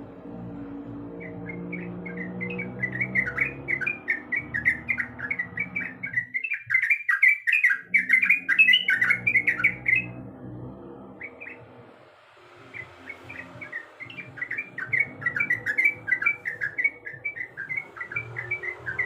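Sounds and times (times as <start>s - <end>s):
bird singing bubbly notes: 1.2s - 10.2s, 11.2s - 11.7s, 12.6s - 19.0s.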